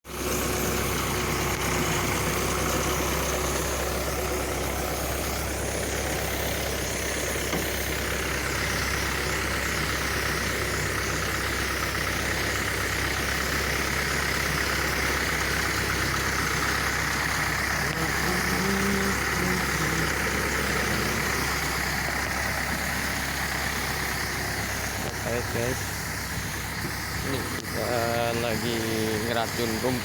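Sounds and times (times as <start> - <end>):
engine driving spray pump: 0.0 - 30.0.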